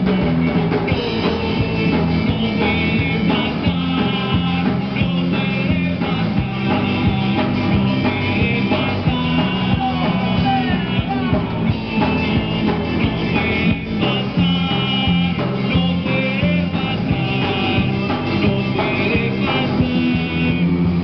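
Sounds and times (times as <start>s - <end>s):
bass guitar: 0.0s - 21.0s
drum beat of sharp hits: 0.0s - 21.0s
electric guitar: 0.0s - 21.0s
person singing into a microphone: 1.4s - 21.0s.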